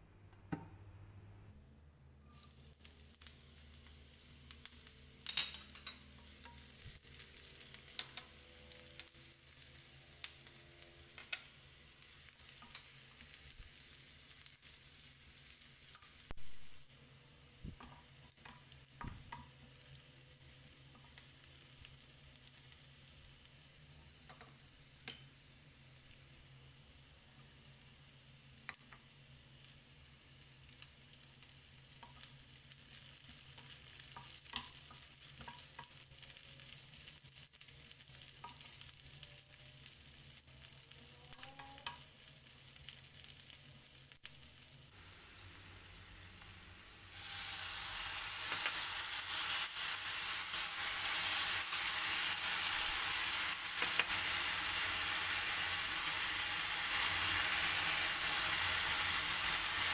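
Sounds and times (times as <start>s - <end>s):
food sizzling in oil: 2.3s - 59.9s.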